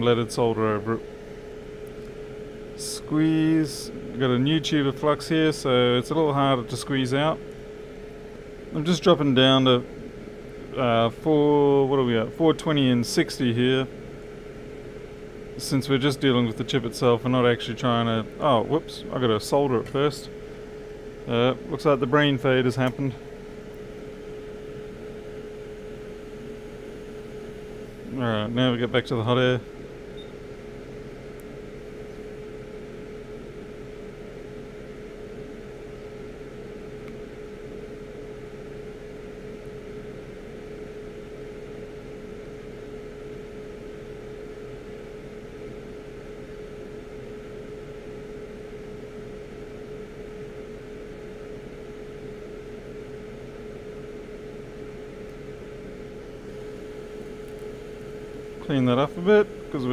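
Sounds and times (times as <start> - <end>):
hot air station fan hum: 0.0 - 59.9.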